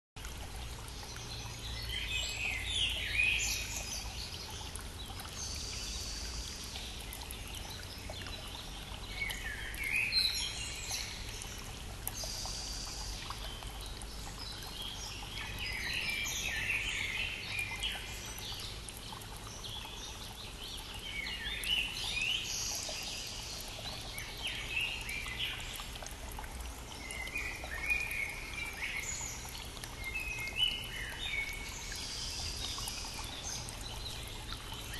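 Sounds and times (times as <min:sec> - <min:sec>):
songbirds singing: 0:00.6 - 0:34.9.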